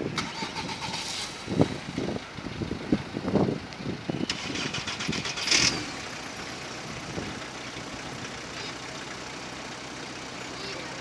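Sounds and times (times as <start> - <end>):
car engine idling: 0.0 - 11.0
street traffic: 0.0 - 11.0.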